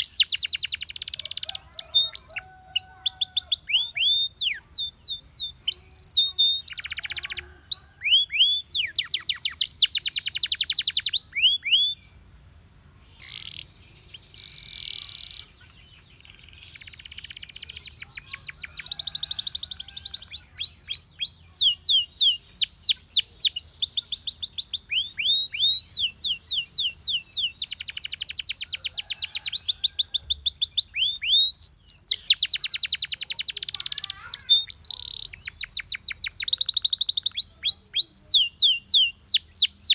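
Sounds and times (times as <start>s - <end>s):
canary singing: 0.0s - 12.4s, 13.0s - 39.9s.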